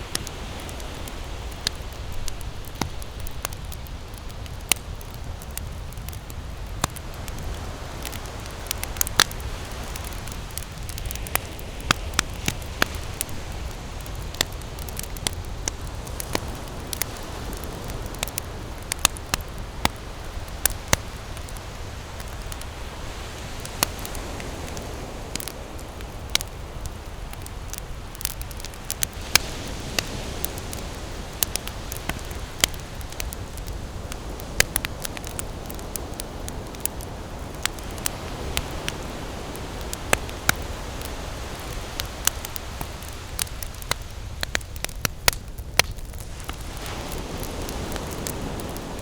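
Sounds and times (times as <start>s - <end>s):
campfire crackles and pops: 0.0s - 49.0s
steady hiss and low rumble: 0.0s - 49.0s.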